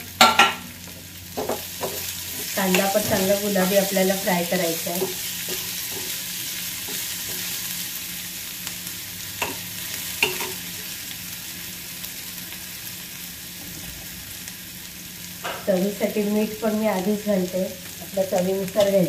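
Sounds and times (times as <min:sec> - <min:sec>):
onion sizzling in a pan: 0:00.0 - 0:19.0.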